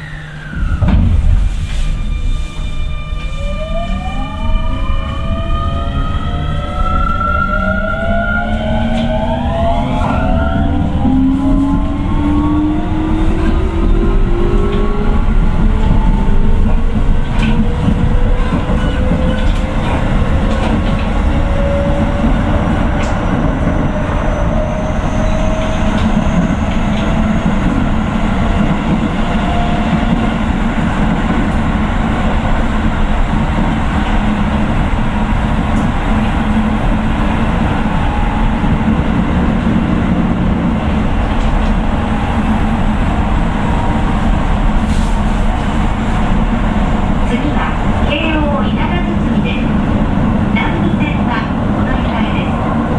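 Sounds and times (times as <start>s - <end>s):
rail joint clicks: 8.1s - 52.9s.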